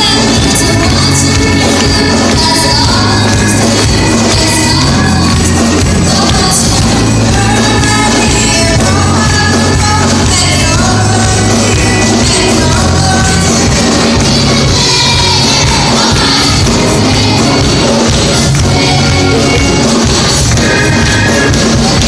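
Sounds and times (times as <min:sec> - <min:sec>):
gospel song with band: 0:00.0 - 0:22.0.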